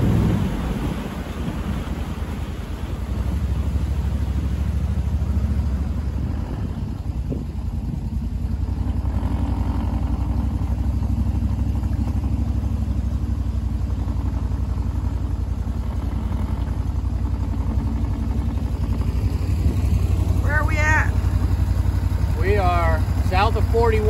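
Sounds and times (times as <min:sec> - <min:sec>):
boat motor droning: 0:00.0 - 0:24.0.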